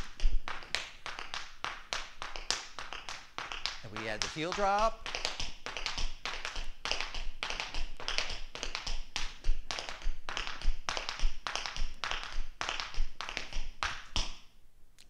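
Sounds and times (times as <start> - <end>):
tap shoes dancing: 0.0 - 14.4.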